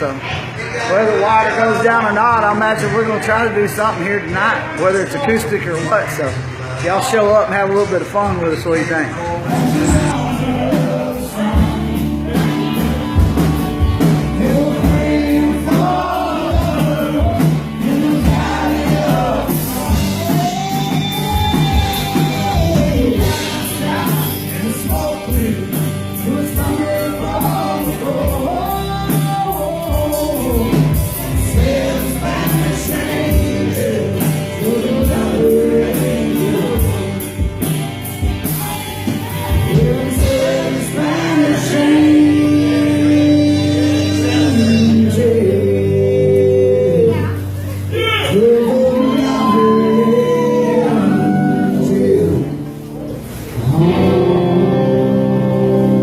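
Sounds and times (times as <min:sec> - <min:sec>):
person singing: 0:09.5 - 0:37.7, 0:38.4 - 0:52.7, 0:53.6 - 0:56.0.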